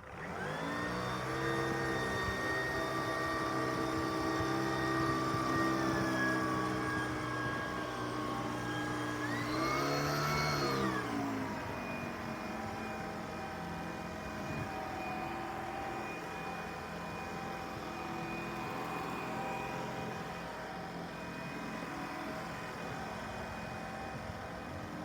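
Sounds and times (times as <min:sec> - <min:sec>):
stick vacuum running: 0:00.0 - 0:25.0.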